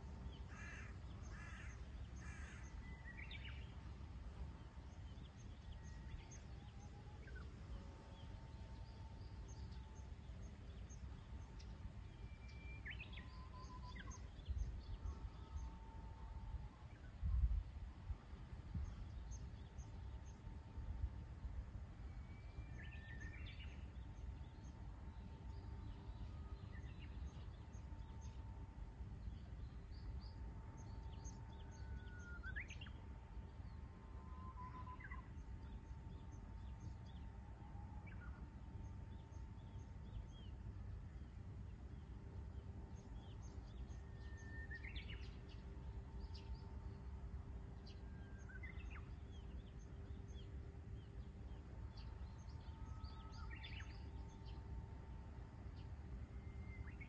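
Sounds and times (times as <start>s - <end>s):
faint steady hum: 0.0s - 57.0s
low steady rumble: 0.0s - 57.0s
songbird singing: 0.0s - 57.0s.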